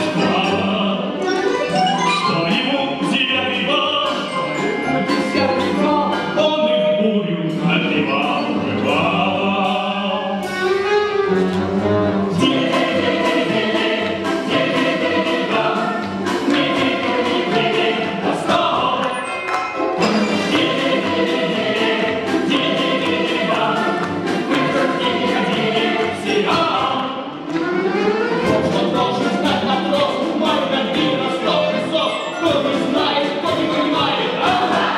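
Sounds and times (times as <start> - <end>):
two men singing a duet: 0.0 - 1.2, 2.3 - 4.3, 5.4 - 10.4, 12.4 - 19.2, 20.0 - 27.2, 28.5 - 34.9
folk orchestra plucked strings: 0.0 - 34.9.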